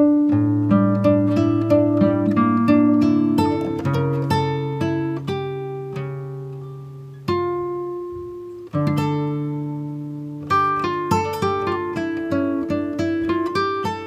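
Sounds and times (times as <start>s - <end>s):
plucked guitar chords: 0.0s - 14.0s.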